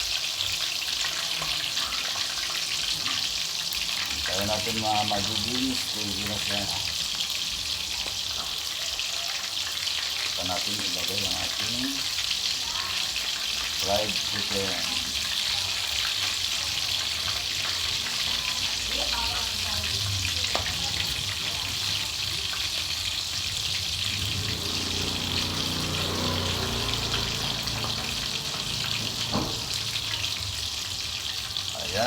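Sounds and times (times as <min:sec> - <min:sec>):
gravy sizzling in a pan: 0:00.0 - 0:32.0.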